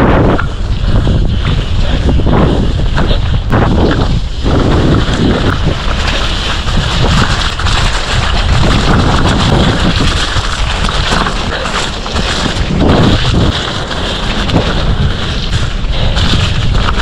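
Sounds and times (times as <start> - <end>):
heavy low rumble: 0.0 - 17.0
wind buffeting microphone: 0.0 - 17.0.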